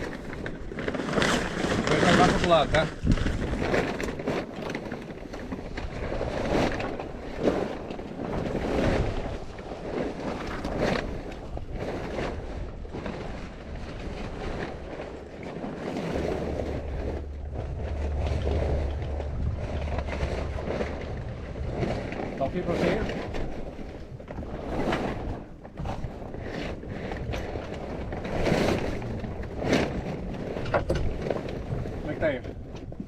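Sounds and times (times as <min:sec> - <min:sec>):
steady low rumble: 0:00.0 - 0:33.0
water noise: 0:00.0 - 0:33.0
wind buffeting microphone: 0:00.0 - 0:33.0.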